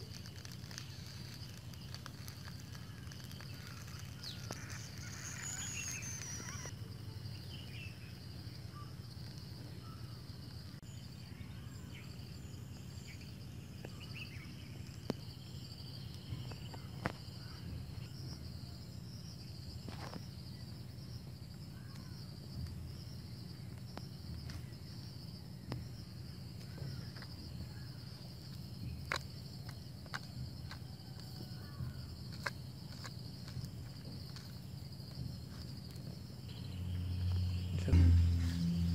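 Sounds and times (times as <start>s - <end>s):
crickets chirring: 0.0s - 38.9s
low background hum: 0.5s - 38.9s.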